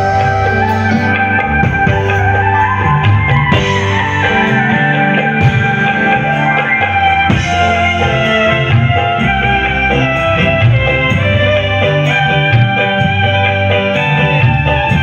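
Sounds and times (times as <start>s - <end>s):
guitar: 0.0s - 15.0s
hand drums driving rhythm: 0.0s - 15.0s
live band music: 0.0s - 15.0s.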